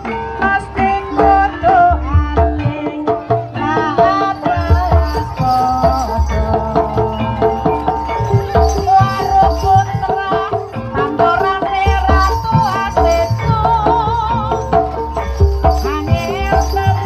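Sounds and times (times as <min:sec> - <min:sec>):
drum beats: 0:00.0 - 0:17.0
gamelan melody: 0:00.0 - 0:17.0.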